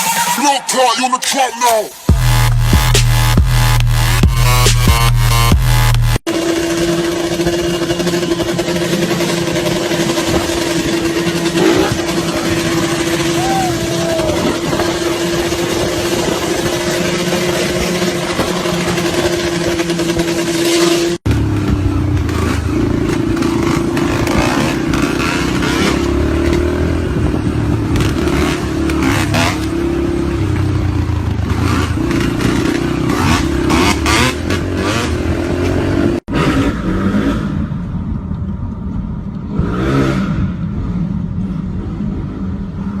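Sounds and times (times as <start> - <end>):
motorcycle engines revving: 1.9 - 43.0.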